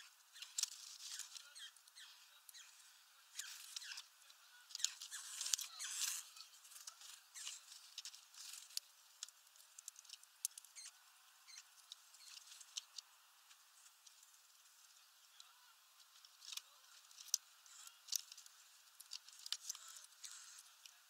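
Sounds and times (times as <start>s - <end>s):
bird pecking at seeds: 0.3s - 21.0s.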